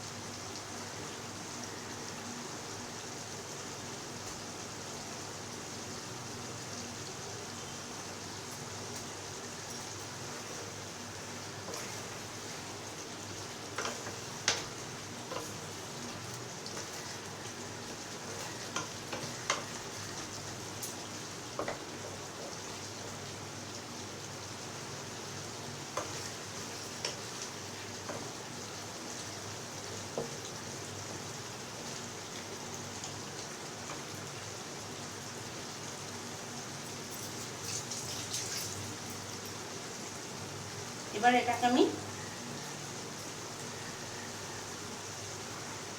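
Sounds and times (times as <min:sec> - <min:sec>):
chicken sizzling in oil: 0:00.0 - 0:45.9.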